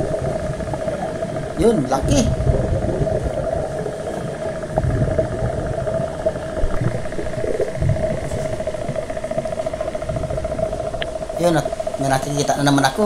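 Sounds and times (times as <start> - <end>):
underwater droning hum: 0.0 - 13.0
water rumbling around microphone: 0.0 - 13.0.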